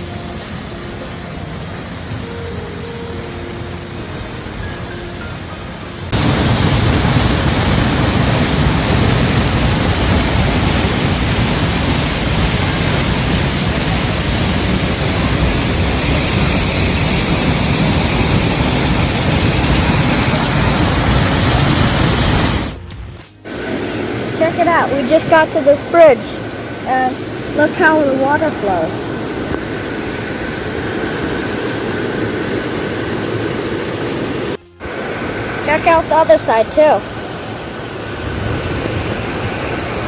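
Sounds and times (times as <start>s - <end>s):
waterfall rushing: 0.0s - 22.9s, 23.5s - 40.0s.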